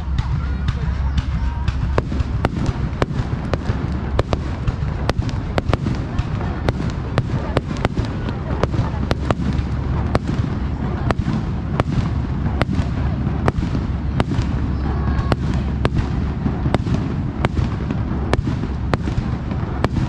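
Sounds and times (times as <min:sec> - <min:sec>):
fireworks bangs: 0:00.0 - 0:20.0
low rumble of echoing detonations: 0:00.0 - 0:20.0.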